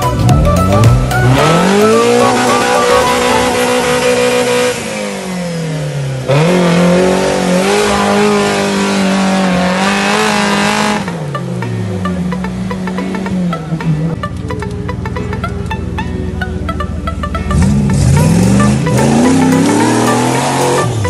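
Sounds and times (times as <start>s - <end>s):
off-road engine revving under load: 0.0s - 14.7s, 16.6s - 21.0s.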